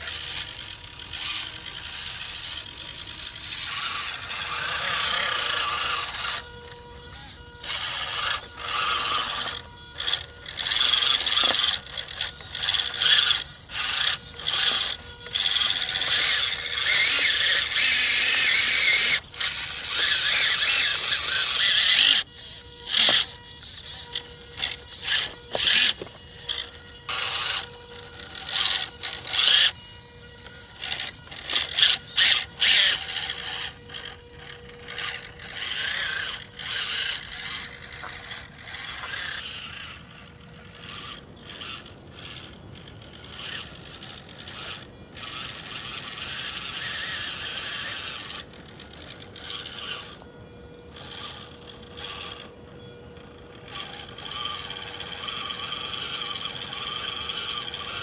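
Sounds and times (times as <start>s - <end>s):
rc car electric motor whining: 0.0s - 58.0s.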